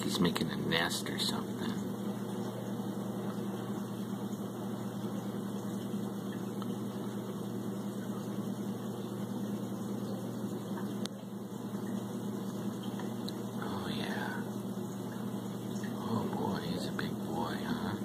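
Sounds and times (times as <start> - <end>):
aquarium equipment humming: 0.0 - 18.0.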